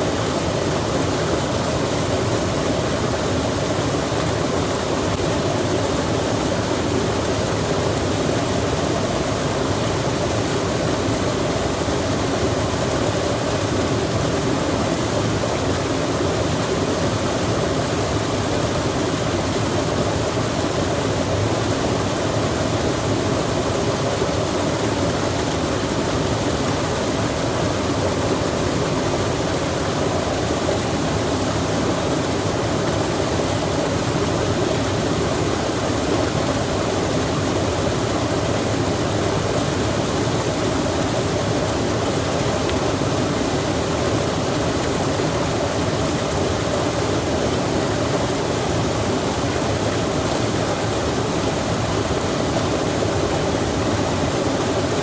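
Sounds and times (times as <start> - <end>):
rushing flowing water: 0.0 - 55.0.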